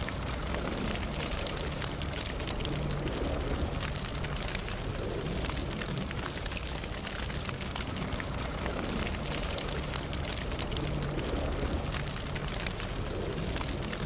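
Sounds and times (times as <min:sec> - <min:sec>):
burning wood crackling: 0:00.0 - 0:14.0
campfire flames rushing: 0:00.0 - 0:14.0.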